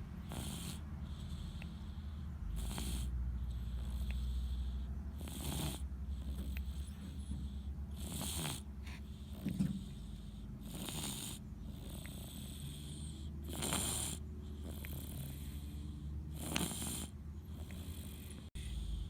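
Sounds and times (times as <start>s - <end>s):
loud breathy snoring: 0.0s - 19.0s
quiet breaths: 0.0s - 19.0s.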